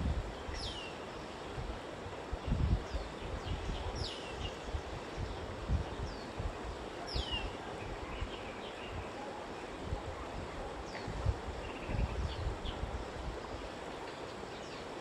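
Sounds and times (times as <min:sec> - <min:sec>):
wind buffeting microphone: 0:00.0 - 0:00.8, 0:01.4 - 0:09.2, 0:09.8 - 0:13.9
steady background hiss: 0:00.0 - 0:15.0.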